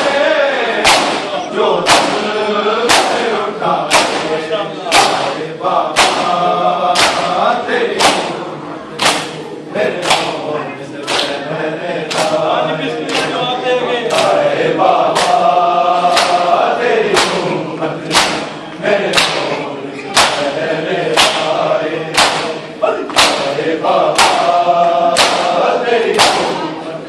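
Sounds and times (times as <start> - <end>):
chest beating in unison: 0.0 - 11.4, 12.1 - 13.5, 14.1 - 26.8
men chanting a lament: 0.0 - 27.0.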